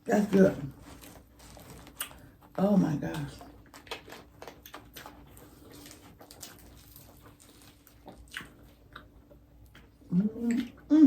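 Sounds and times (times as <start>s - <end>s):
person chewing food: 0.2s - 11.0s.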